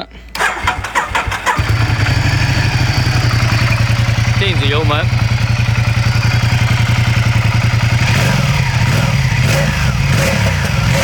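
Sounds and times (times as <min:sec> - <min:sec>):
motorcycle engine idling and revving: 0:00.3 - 0:11.0.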